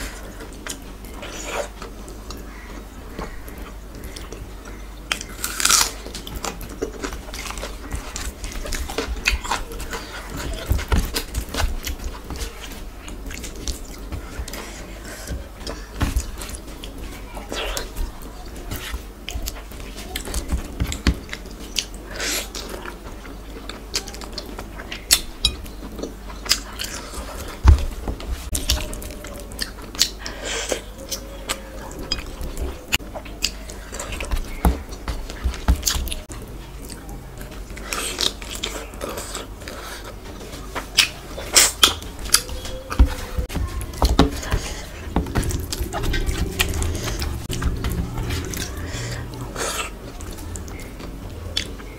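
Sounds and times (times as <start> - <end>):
fingers mixing food in steel tray: 0.0 - 51.9
wet chewing and smacking: 0.0 - 51.9.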